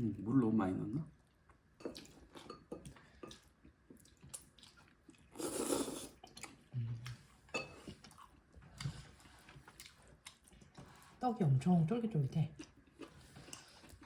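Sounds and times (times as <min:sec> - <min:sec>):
person chewing rice cakes: 0:01.3 - 0:11.1, 0:12.5 - 0:14.0.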